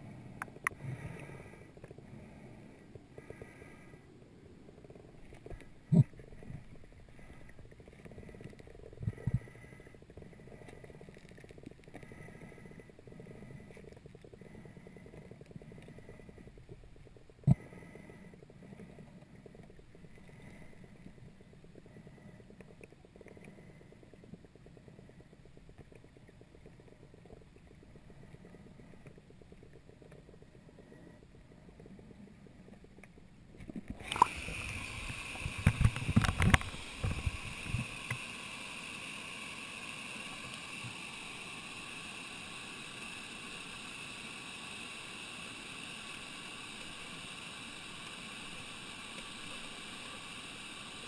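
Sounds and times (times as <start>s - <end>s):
muffled underwater flowing water: 0.0s - 51.0s.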